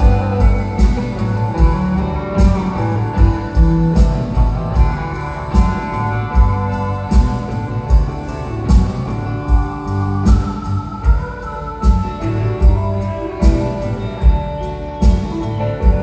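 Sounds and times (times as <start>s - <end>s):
guitar: 0.0s - 16.0s
live band playing: 0.0s - 16.0s.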